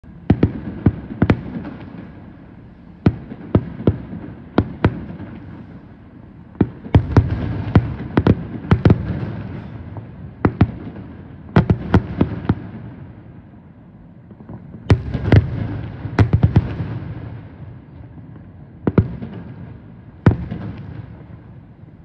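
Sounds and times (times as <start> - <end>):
fireworks bangs: 0.2 - 13.5, 14.2 - 21.7.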